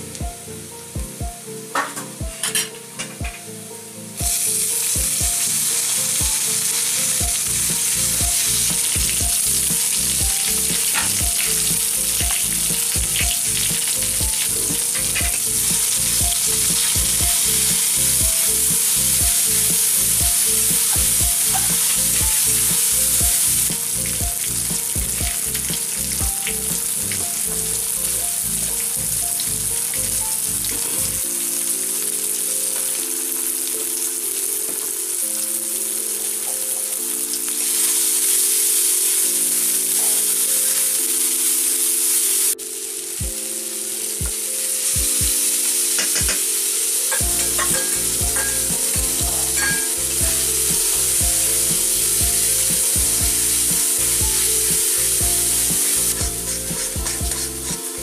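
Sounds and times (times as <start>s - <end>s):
soft background music: 0.0s - 58.0s
vegetables sizzling in oil: 4.3s - 35.1s, 36.0s - 42.6s, 44.0s - 58.0s.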